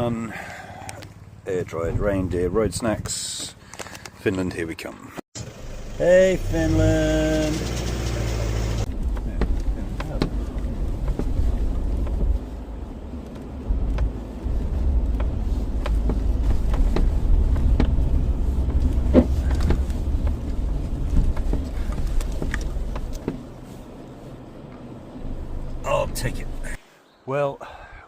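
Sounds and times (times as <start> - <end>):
vehicle engine and tyres rumbling: 0.0 - 26.8.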